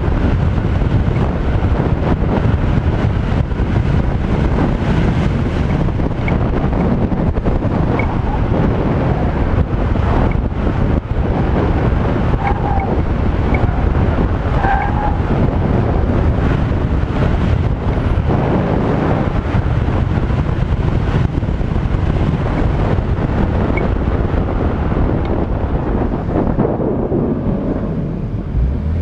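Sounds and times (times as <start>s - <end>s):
car engine accelerating hard: 0.0s - 29.0s
wind buffeting microphone: 0.0s - 29.0s.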